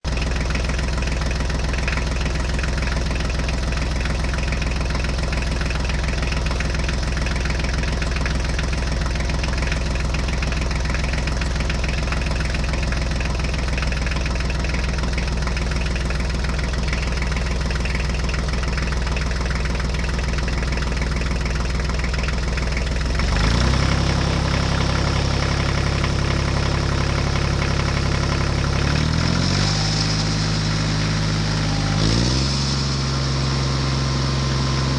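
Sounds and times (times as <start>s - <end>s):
diesel tractor engine idling and revving: 0.0s - 34.9s.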